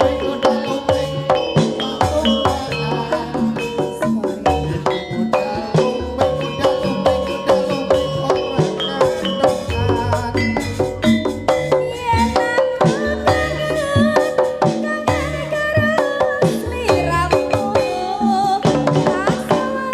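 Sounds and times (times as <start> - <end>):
wavering high held tone: 0.0 - 17.2
drum beats: 0.0 - 19.9
ringing metal percussion: 0.0 - 19.9.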